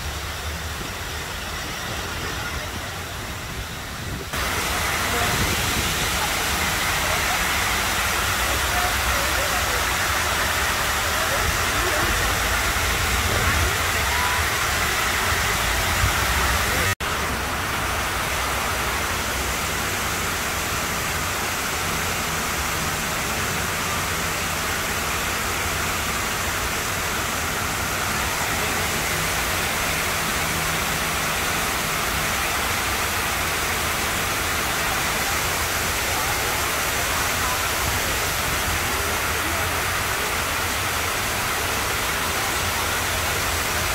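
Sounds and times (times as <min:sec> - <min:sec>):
water pouring down fountain walls: 0:00.0 - 0:43.9.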